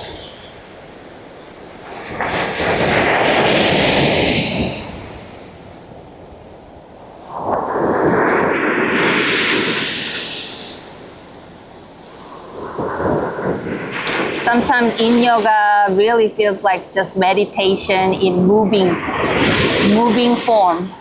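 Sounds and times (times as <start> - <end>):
ocean waves crashing on shore: 0.0 - 21.0.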